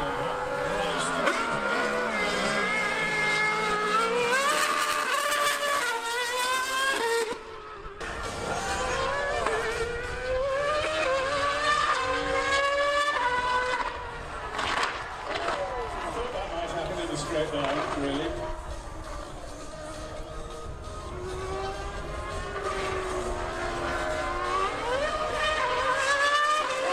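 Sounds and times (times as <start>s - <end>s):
racing engines revving and upshifting: 0.0s - 26.9s.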